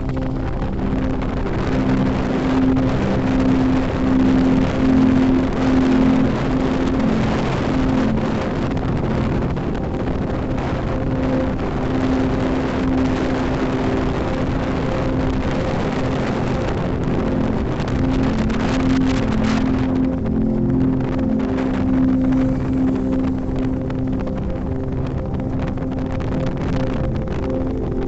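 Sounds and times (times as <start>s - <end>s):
background music with held notes: 0.0s - 28.0s
road and wind noise: 0.0s - 28.0s.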